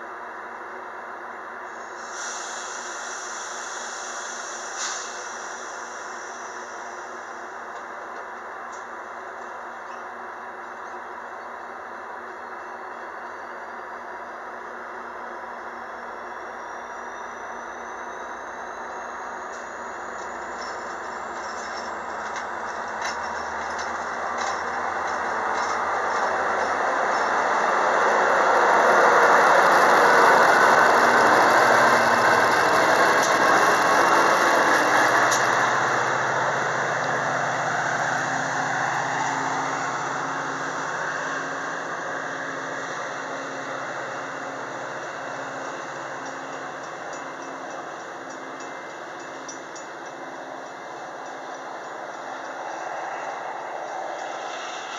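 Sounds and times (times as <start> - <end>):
train rising whine: 0.0 - 54.9
train wheels clicking: 1.7 - 13.5, 16.9 - 54.9.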